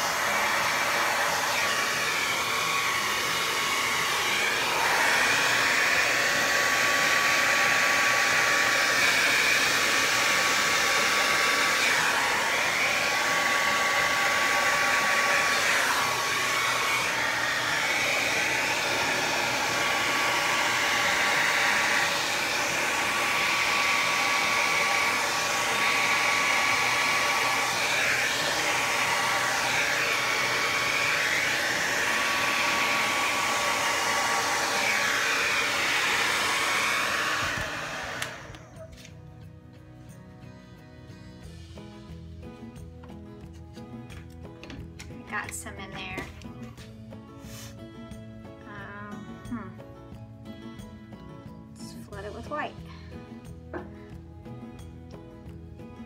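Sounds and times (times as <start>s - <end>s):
hair dryer blowing: 0.0s - 39.2s, 43.8s - 48.2s, 51.8s - 55.6s.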